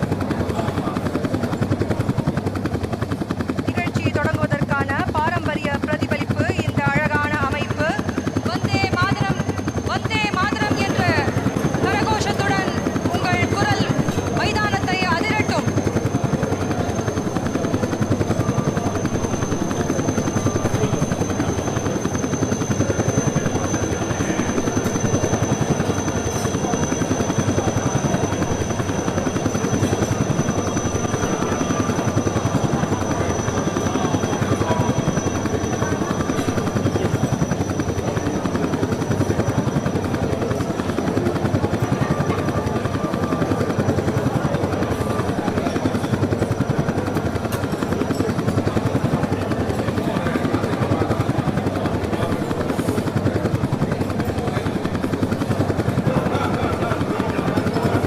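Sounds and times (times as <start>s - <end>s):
helicopter rotor chop: 0.0s - 58.0s.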